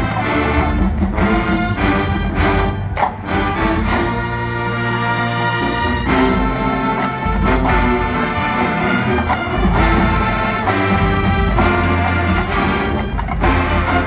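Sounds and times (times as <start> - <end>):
marching band brass chords: 0.0 - 14.0.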